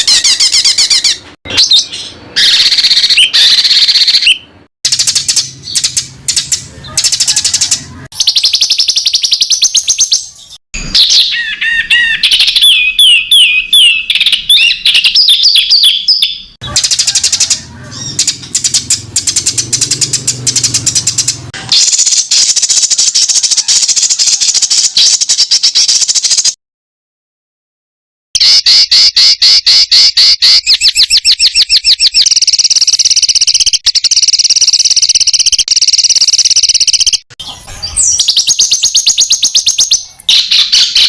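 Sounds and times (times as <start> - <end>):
songbird trills and whistles: 0.0 - 26.5, 28.4 - 41.0.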